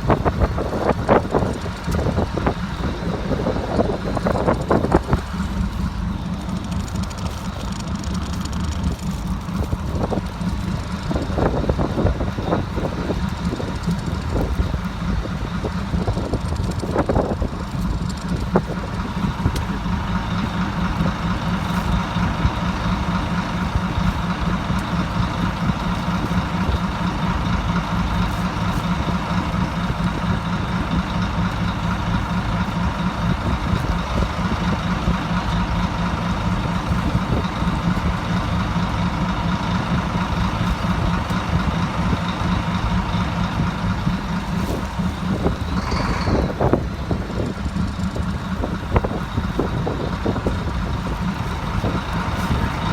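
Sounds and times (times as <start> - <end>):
boat engine rumble with whine: 0.0 - 52.9.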